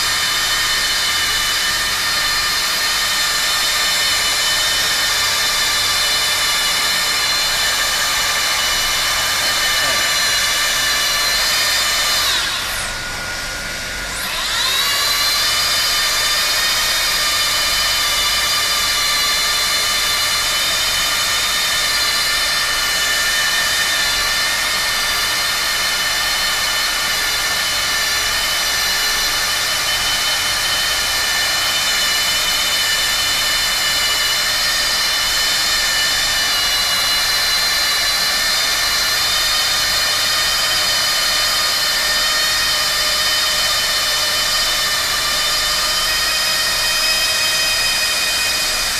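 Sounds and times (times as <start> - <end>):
hot-air welder motor whining: 0.0 - 48.9.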